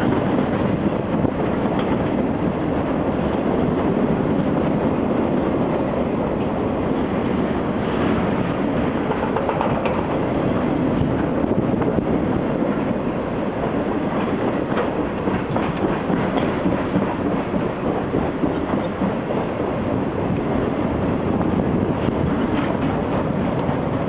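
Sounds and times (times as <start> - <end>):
train wheels on rail: 0.0 - 24.0.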